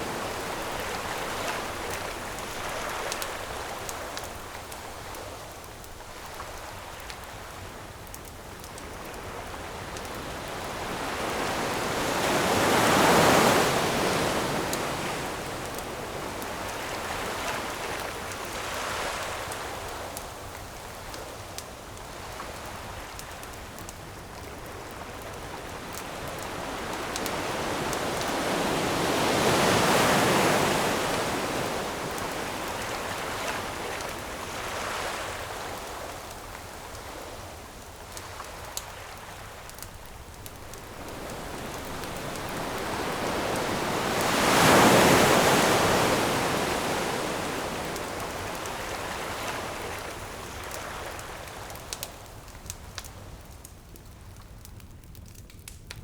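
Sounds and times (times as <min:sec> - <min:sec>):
ocean waves breaking on shore: 0:00.0 - 0:07.5, 0:08.7 - 0:21.0, 0:24.5 - 0:52.3
campfire crackling: 0:00.0 - 0:56.0.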